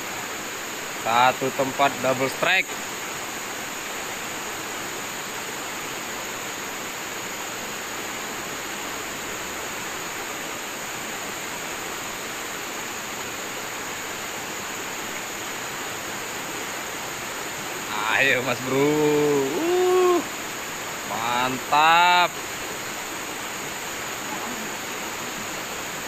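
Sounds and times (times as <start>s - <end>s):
river water rushing through rapids: 0.0s - 26.0s.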